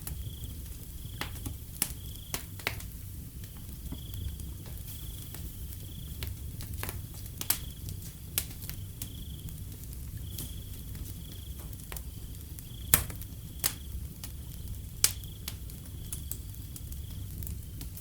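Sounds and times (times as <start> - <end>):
crickets chirping: 0.0 - 18.0
wood fire crackling: 0.0 - 18.0.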